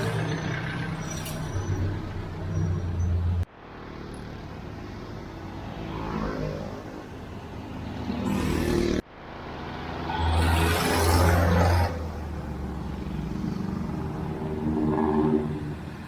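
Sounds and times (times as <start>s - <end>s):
vehicle engines passing close: 0.0s - 16.0s.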